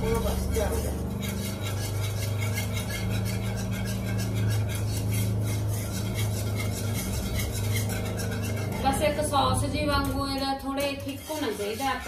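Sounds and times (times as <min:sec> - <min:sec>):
steady low hum: 0:00.0 - 0:12.0
wire whisk scraping a pan: 0:00.0 - 0:12.0.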